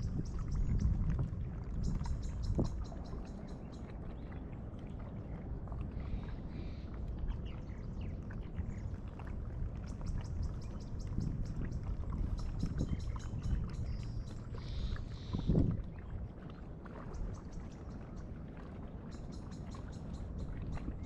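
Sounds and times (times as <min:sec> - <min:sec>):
paddle splashing and dripping: 0:00.0 - 0:21.0
wind rumble on microphone: 0:00.0 - 0:21.0.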